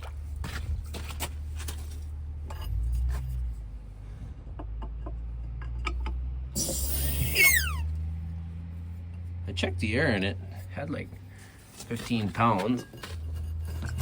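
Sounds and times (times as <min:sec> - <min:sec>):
low engine hum: 0:00.0 - 0:12.5.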